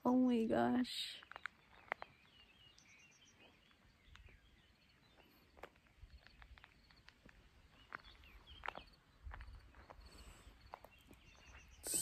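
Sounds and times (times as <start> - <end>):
distant bird chirps: 1.0 - 12.0.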